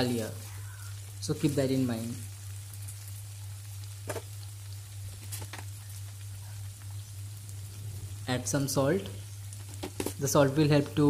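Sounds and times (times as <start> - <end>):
low hum: 0.0 - 11.0
potatoes and onions sizzling in oil: 0.0 - 11.0.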